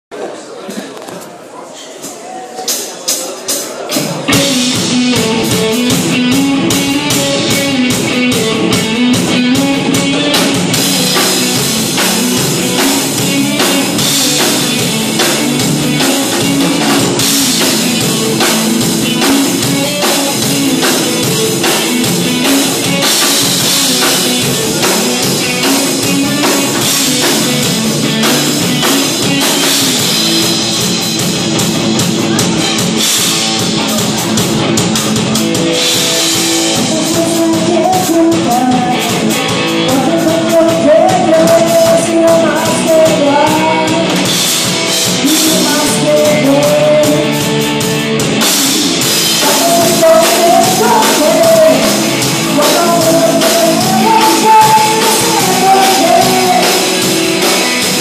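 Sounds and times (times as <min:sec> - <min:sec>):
live rock band: 0:01.0 - 0:58.0.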